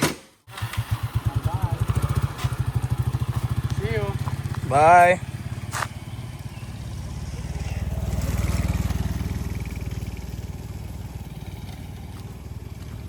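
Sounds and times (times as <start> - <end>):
motorbike engine running: 0.5 - 13.0.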